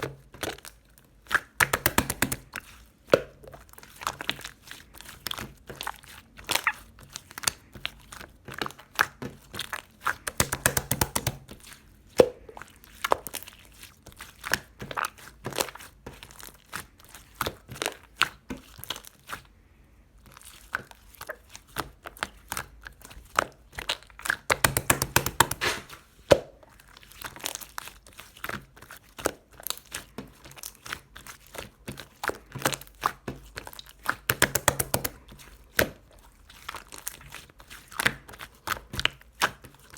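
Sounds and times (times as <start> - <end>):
slime squished with sticky pops: 0.0 - 19.4, 20.6 - 39.9.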